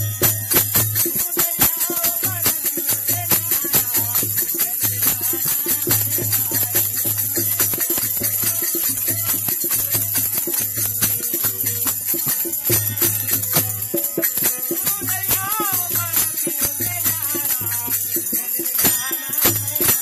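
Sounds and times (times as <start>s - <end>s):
dholak drum rhythm: 0.0s - 20.0s
metallic jingling hand percussion: 0.0s - 20.0s.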